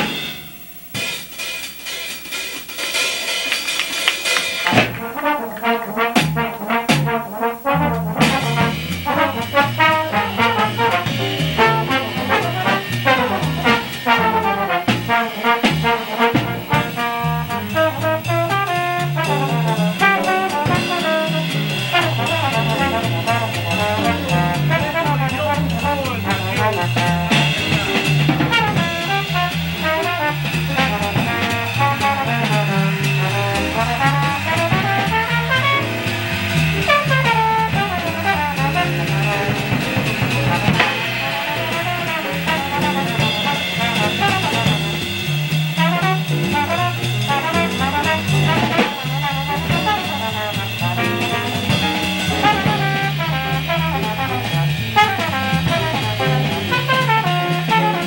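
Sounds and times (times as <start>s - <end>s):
drums: 0.0s - 58.0s
trombone: 0.0s - 58.0s
walking upright bass: 3.5s - 58.0s.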